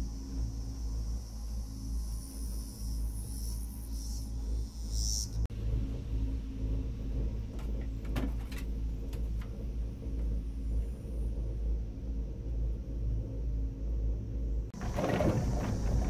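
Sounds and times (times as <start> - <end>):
gondola cabin low rumble: 0.0 - 16.0.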